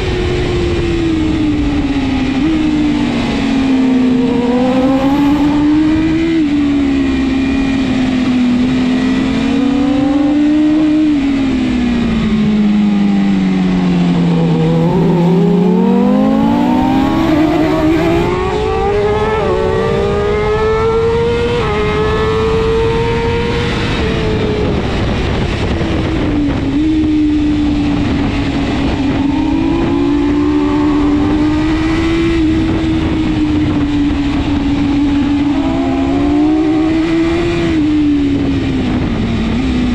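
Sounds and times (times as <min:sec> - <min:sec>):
motorcycle engine revving hard: 0:00.0 - 0:39.9
wind noise: 0:00.0 - 0:39.9.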